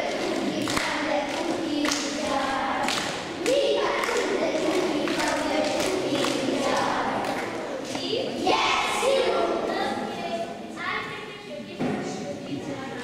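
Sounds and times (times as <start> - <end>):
children's choir singing: 0.0 - 10.6.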